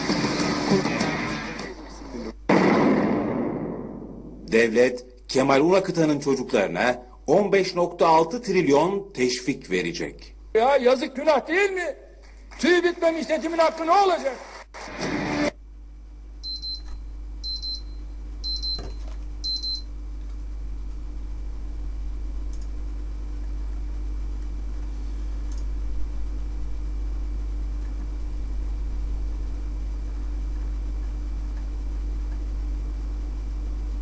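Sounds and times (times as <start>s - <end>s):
low electrical hum: 1.6s - 34.0s.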